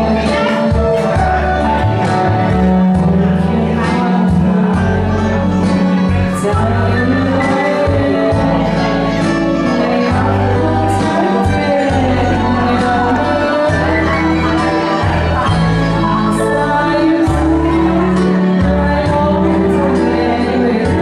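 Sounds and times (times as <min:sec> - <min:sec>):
woman singing: 0:00.0 - 0:02.2, 0:02.8 - 0:21.0
backing track with bass and beat: 0:00.0 - 0:21.0.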